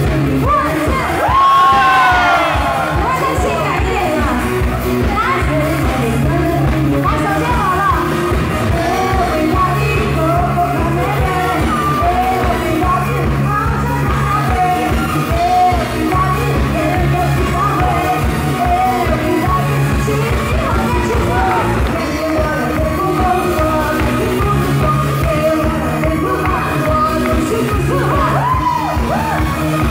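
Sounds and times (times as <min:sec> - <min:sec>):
live pop band playing: 0:00.0 - 0:29.9
steady bass line: 0:00.0 - 0:29.9
woman singing into microphone: 0:00.0 - 0:29.9.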